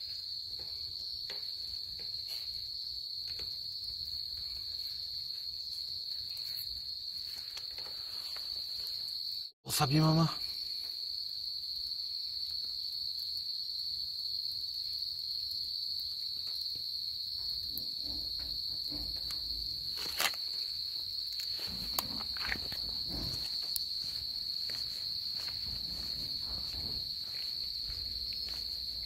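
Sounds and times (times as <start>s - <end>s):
night insects shrilling: 0.0s - 29.0s.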